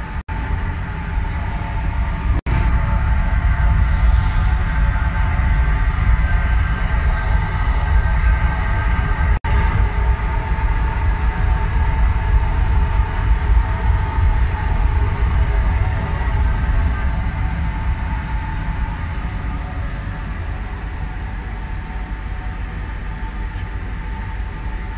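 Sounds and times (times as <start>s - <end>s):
industrial machinery rumble: 0.0s - 24.9s
steady machine tones: 0.0s - 24.9s.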